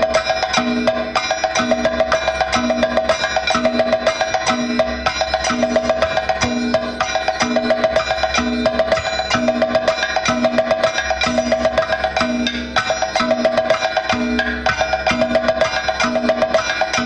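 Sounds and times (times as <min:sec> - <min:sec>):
percussion-led dance music: 0:00.0 - 0:17.0.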